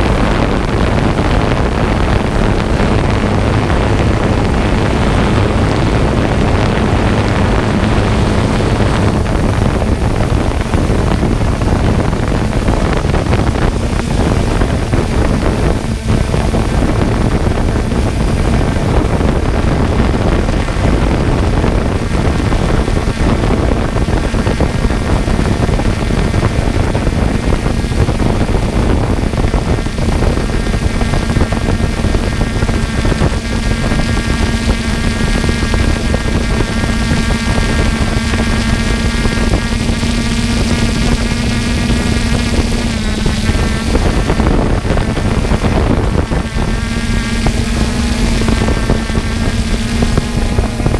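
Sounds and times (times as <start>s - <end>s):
drone propellers whining: 0.0s - 50.9s
rushing wind: 0.0s - 50.9s.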